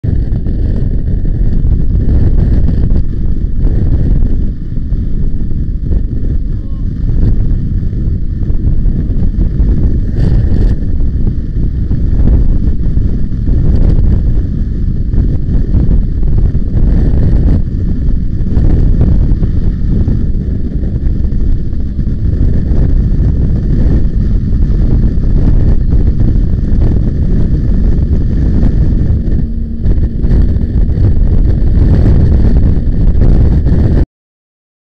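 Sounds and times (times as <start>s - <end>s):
motorcycle engine and tyre noise: 0.0s - 34.0s
wind buffeting microphone: 0.0s - 34.0s.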